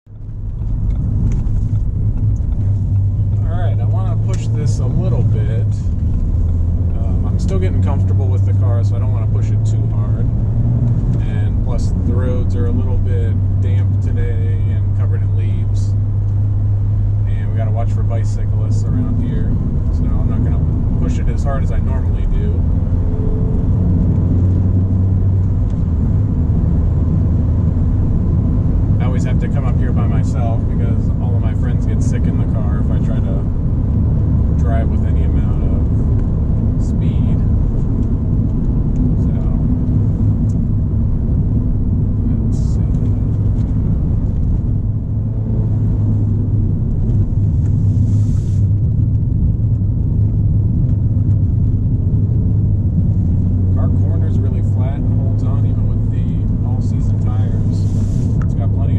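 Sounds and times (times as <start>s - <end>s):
car engine hum: 0.1s - 58.9s.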